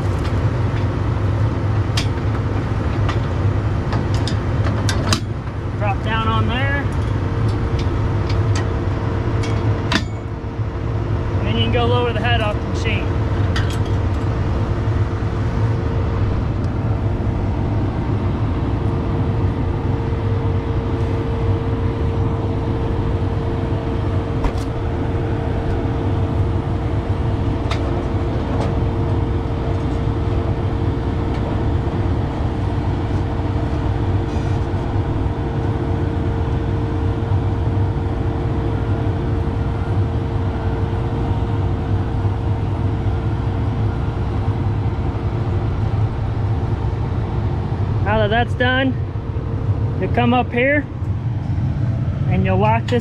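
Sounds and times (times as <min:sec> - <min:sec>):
diesel engine droning: 0:00.0 - 0:53.0
steady whine: 0:00.0 - 0:53.0.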